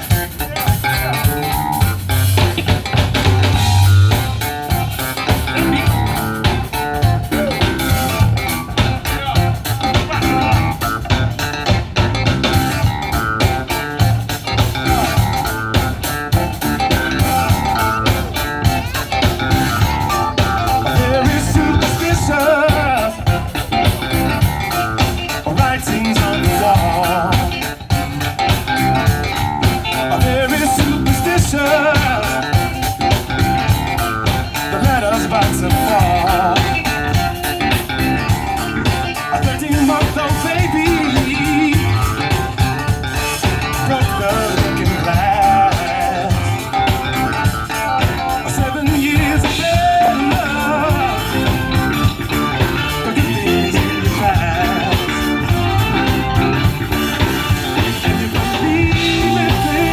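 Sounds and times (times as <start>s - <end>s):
bass guitar: 0.0s - 59.9s
drum kit: 0.0s - 59.9s
guitar: 0.0s - 59.9s.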